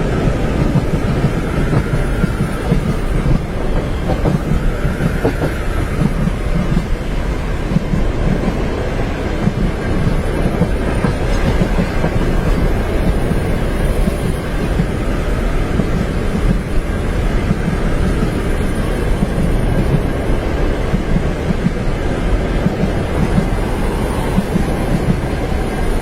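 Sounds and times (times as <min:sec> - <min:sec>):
train rumble inside carriage: 0:00.0 - 0:26.0.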